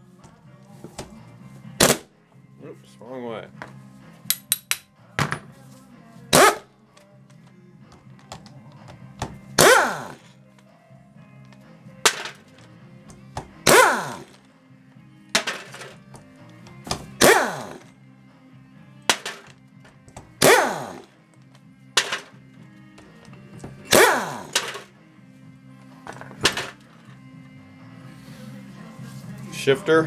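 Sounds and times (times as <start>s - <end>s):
background music: 0.0s - 30.0s.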